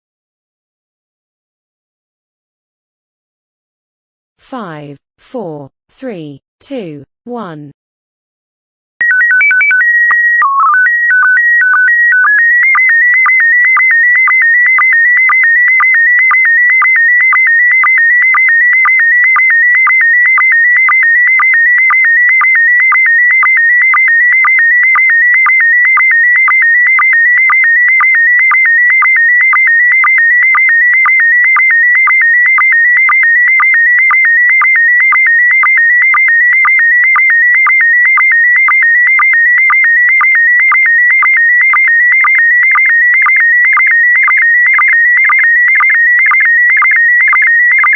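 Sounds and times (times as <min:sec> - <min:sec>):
wavering electronic data tone: 0:09.0 - 0:47.9.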